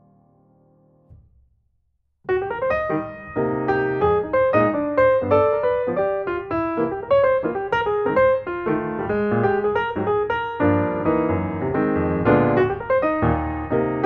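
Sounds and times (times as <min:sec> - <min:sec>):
piano playing: 0:00.0 - 0:01.1, 0:02.3 - 0:14.0.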